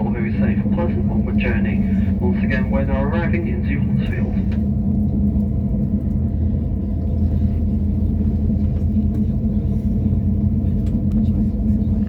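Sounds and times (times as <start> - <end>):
running gear hum: 0.0 - 12.0
train rumbling on rails: 0.0 - 12.0.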